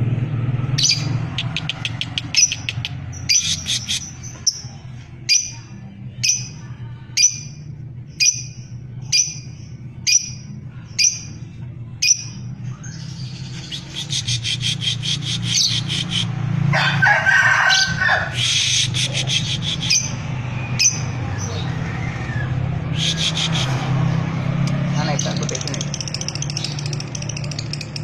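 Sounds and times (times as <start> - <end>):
lovebird chirping and trilling: 0.8 - 11.4, 12.0 - 16.3, 17.7 - 23.8, 25.1 - 28.0.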